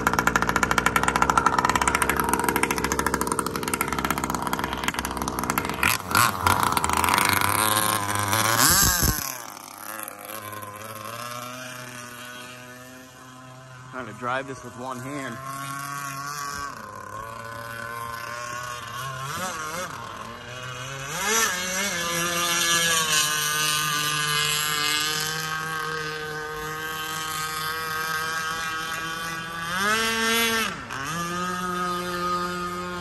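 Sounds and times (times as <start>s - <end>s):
model speedboat motor whine: 0.0s - 33.0s.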